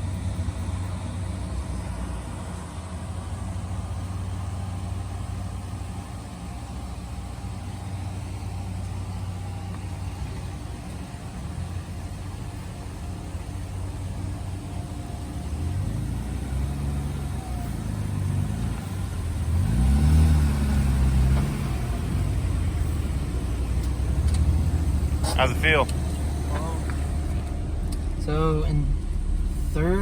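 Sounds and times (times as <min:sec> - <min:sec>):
car engine passing close: 0:00.0 - 0:30.0.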